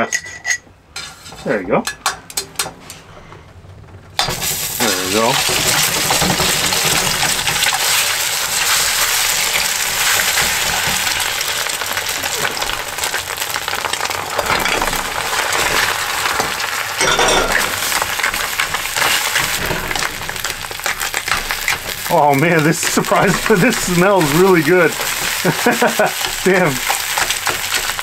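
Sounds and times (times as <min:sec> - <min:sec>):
eggs sizzling in a pan: 0:04.2 - 0:28.0.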